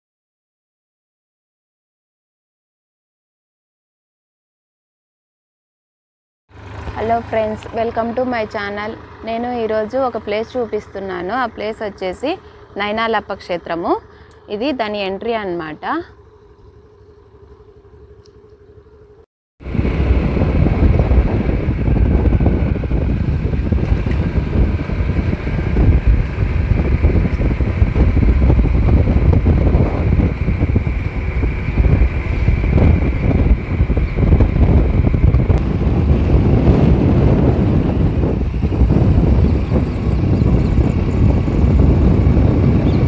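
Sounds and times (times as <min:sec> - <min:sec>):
wind and road noise: 0:06.5 - 0:43.0.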